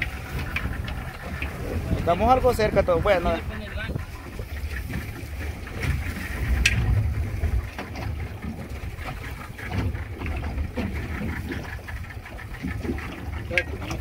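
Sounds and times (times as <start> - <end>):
water washing against boat: 0.0 - 14.0
wind buffeting microphone: 0.0 - 14.0.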